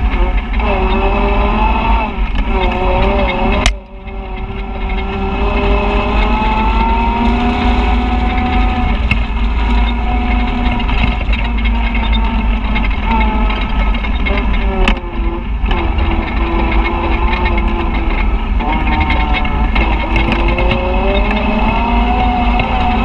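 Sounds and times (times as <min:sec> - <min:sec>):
engine accelerating: 0:00.0 - 0:23.0
wind rumble on microphone: 0:00.0 - 0:23.0.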